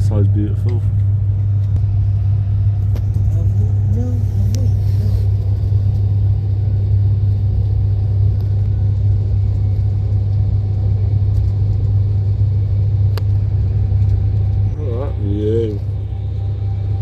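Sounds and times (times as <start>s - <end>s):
train cabin low rumble: 0.0s - 17.0s.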